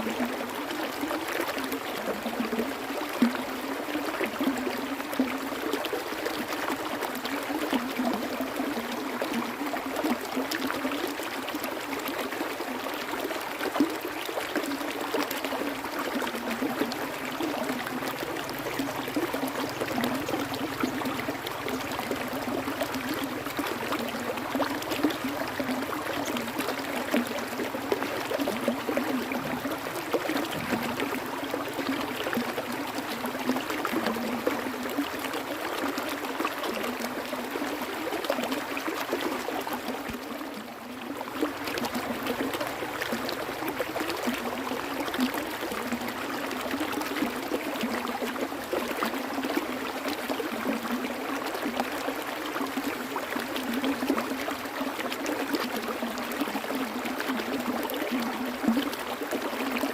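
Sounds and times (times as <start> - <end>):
small water splashes: 0.0 - 59.9
stream water rushing: 0.0 - 59.9.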